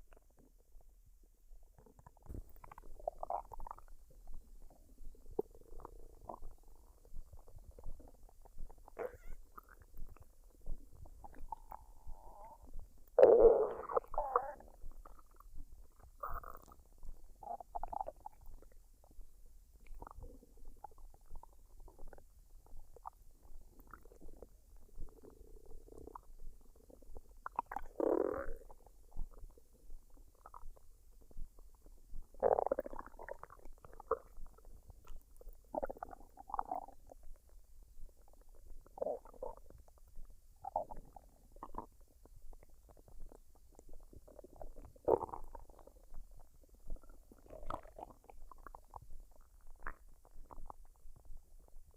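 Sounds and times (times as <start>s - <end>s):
stomach gurgling and rumbling: 0.0s - 51.9s.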